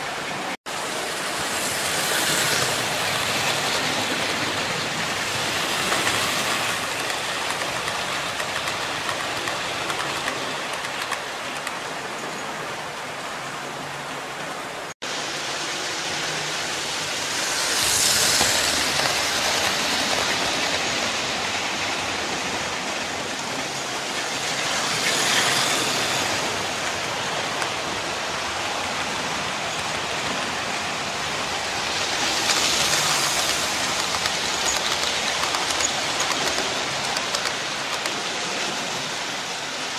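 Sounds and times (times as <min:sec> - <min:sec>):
model trains rolling on rails: 0:00.0 - 0:14.4, 0:15.1 - 0:39.9.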